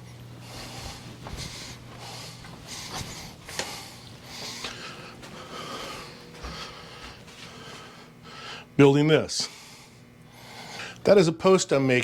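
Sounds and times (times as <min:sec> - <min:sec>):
man breathing heavily: 0:00.0 - 0:08.8, 0:09.4 - 0:11.0.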